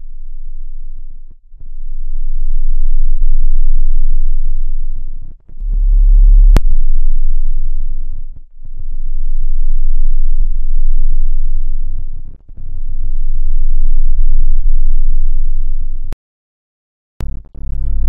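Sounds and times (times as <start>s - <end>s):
deep electronic bass tone: 0.0s - 16.2s, 17.2s - 18.0s.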